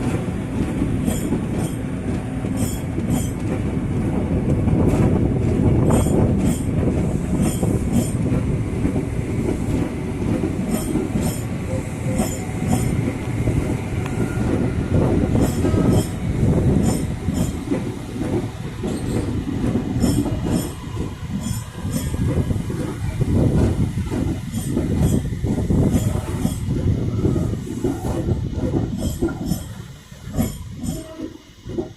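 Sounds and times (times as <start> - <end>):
wheels clacking over rail joints: 0.0 - 3.7, 4.4 - 31.9
train wheels rumbling on rails: 0.0 - 31.9.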